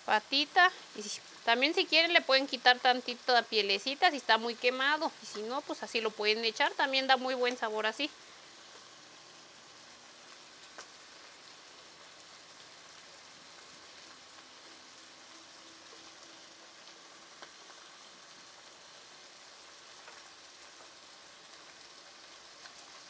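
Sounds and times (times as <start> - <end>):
meat sizzling while frying: 0.0 - 23.0.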